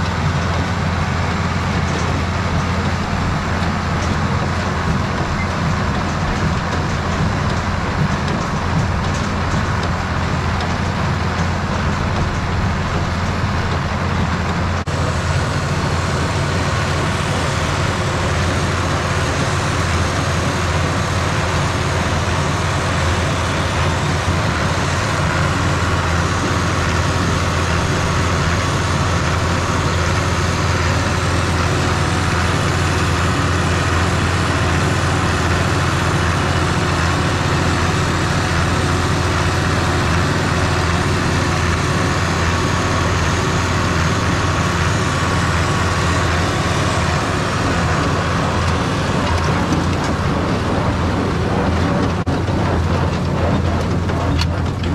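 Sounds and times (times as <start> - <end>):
baler machine noise: 0.0 - 54.9
tractor diesel engine running: 0.0 - 54.9.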